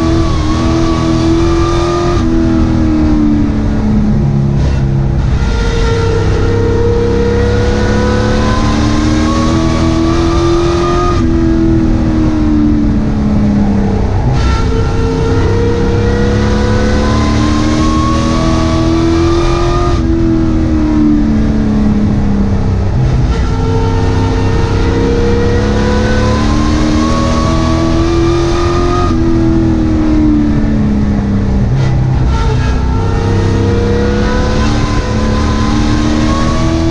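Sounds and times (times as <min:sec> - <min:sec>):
racing engine at full throttle: 0:00.0 - 0:36.9.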